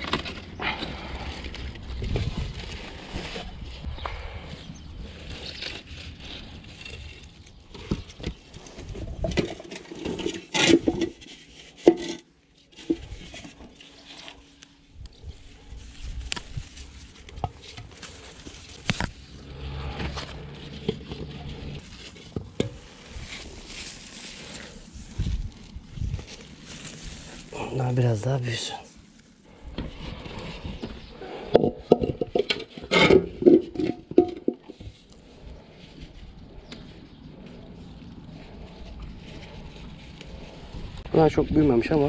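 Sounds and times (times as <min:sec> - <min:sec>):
leaf rustling: 0:00.0 - 0:31.5, 0:33.2 - 0:42.0.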